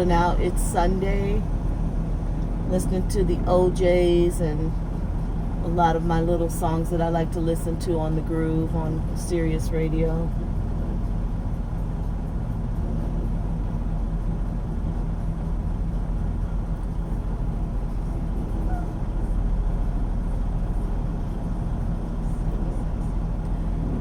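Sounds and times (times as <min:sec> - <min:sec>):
diesel truck engine rumble: 0:00.0 - 0:24.0
road noise: 0:00.0 - 0:24.0.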